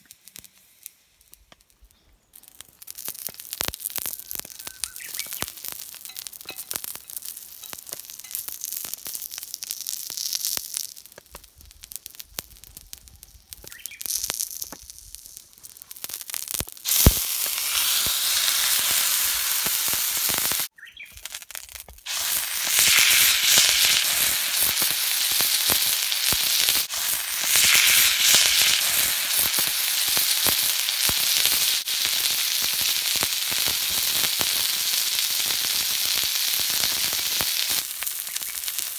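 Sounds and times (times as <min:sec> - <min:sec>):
wood fire crackling: 0:00.0 - 0:38.9
steak sizzling on hot plate: 0:02.3 - 0:38.9.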